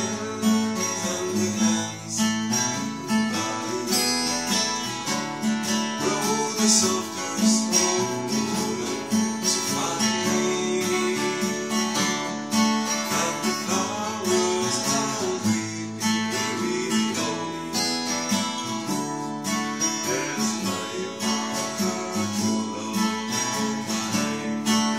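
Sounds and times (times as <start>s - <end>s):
acoustic guitar strumming: 0.0s - 24.9s.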